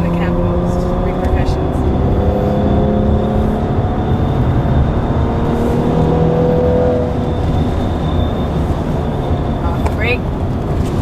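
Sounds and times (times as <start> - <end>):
car engine accelerating: 0.0 - 11.0
road and tyre rumble: 0.0 - 11.0.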